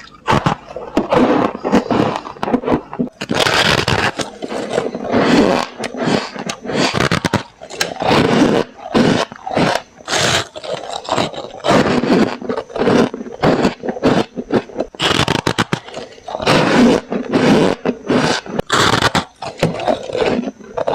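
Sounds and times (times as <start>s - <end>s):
frost being chewed: 0.0s - 20.9s.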